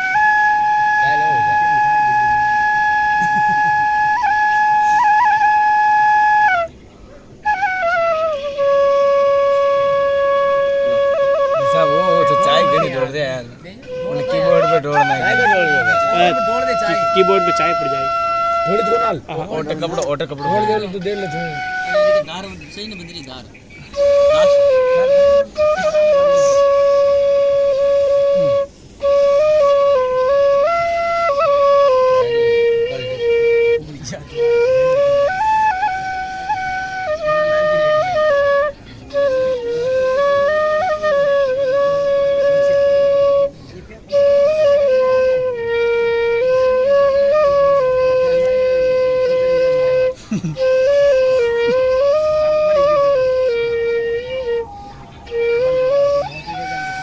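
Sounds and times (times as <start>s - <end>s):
bamboo flute playing solo: 0.0s - 57.0s.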